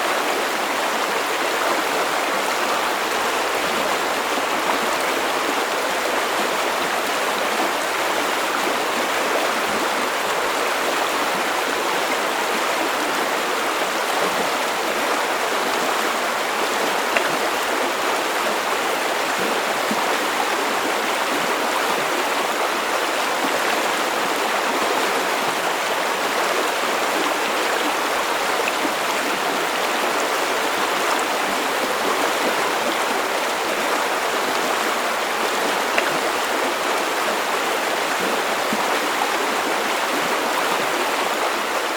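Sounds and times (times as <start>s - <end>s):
river water flowing: 0.0s - 41.9s.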